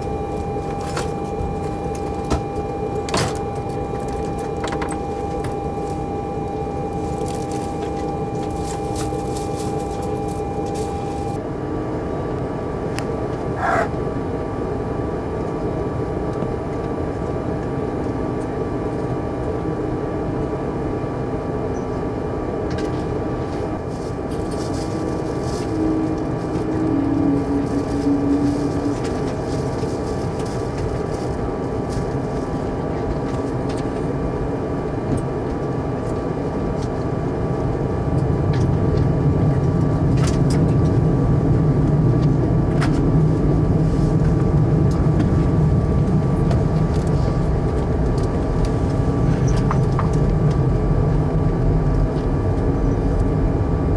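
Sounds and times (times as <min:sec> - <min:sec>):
jet engine cabin roar: 0:00.0 - 0:53.9.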